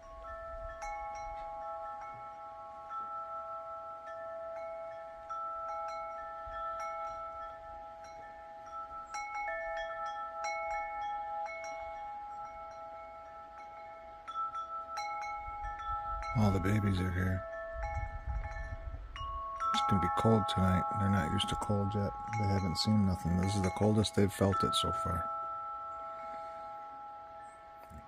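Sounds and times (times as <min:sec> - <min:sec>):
wind chimes ringing: 0:00.0 - 0:28.0.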